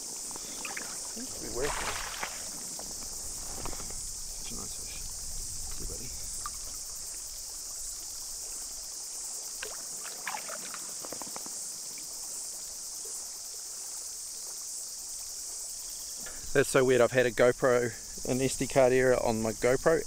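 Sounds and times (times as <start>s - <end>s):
water splashes and trickles: 0.0s - 17.5s
cicadas droning: 0.0s - 20.0s.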